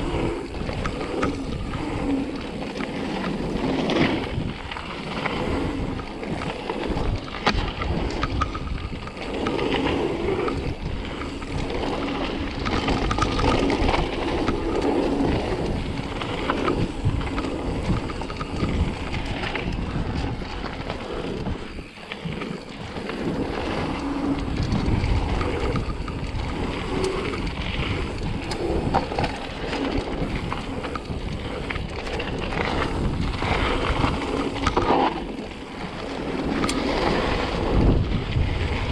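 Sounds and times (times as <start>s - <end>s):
bike rattling: 0.0s - 38.9s
bike tyres on dirt: 0.0s - 38.9s
wind on microphone: 0.0s - 38.9s.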